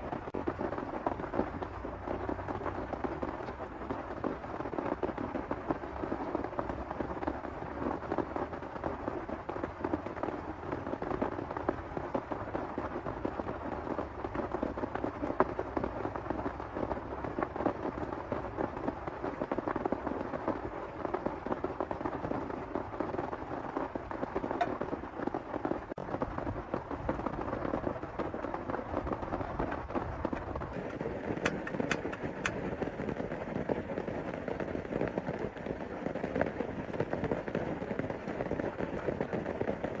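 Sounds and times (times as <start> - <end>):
heavy rain pouring: 0.0 - 40.0
raindrops clicking: 0.0 - 40.0.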